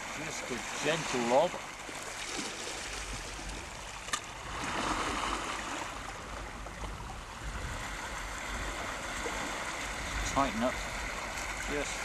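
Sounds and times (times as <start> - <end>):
sea water lapping over rocks: 0.0 - 12.0.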